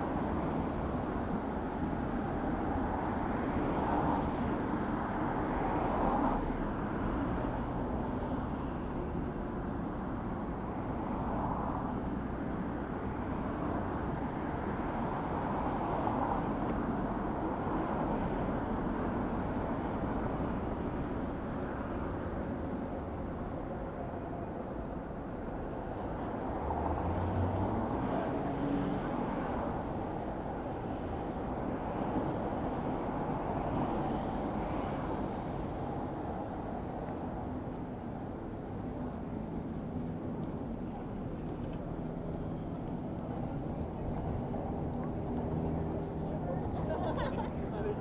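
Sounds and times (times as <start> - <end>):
road traffic rumble: 0.0 - 48.0
vehicles passing: 0.0 - 48.0.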